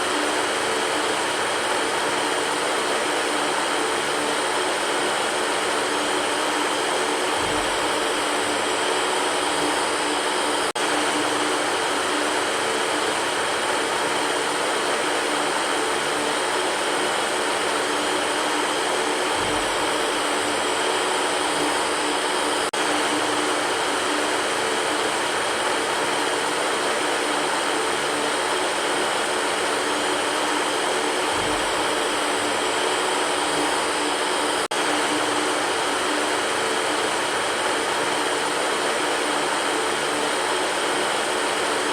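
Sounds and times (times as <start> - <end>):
electric fan running: 0.0 - 41.9.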